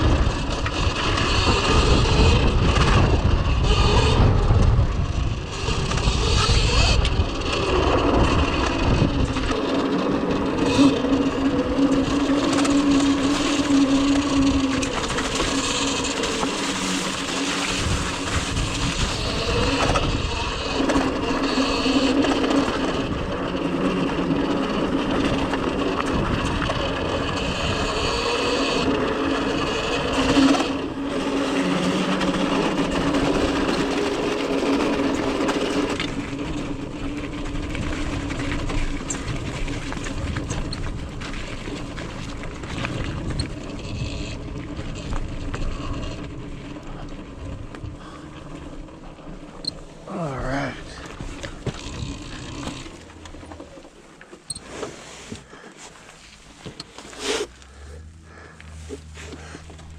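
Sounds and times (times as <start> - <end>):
continuous rushing noise: 0.0 - 59.9
electric motor whine: 0.0 - 59.9.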